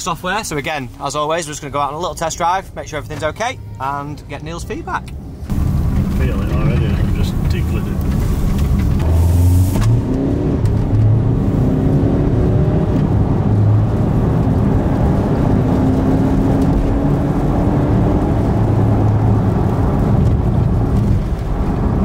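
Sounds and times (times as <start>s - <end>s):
road rumble: 0.0s - 22.0s
diesel engine accelerating: 3.9s - 22.0s.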